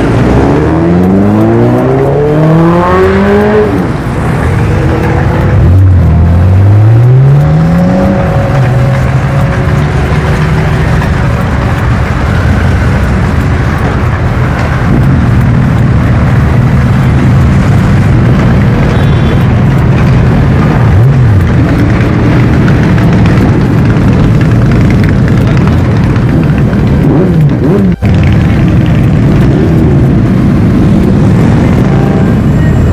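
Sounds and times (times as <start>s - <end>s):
motorbike engine revving: 0.0s - 32.9s.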